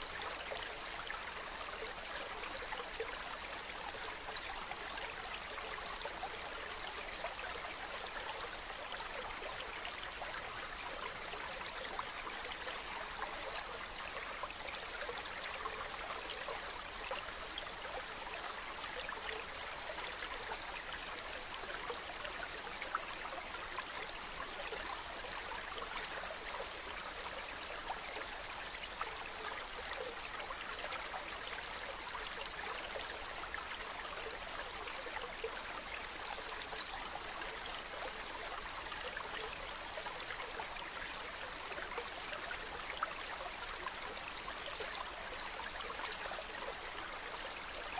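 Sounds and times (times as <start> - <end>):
running water stream: 0.0 - 47.9.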